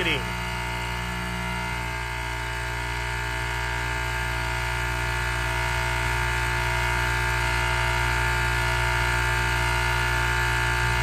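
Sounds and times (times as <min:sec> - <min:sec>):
compressor humming and whining: 0:00.0 - 0:11.0.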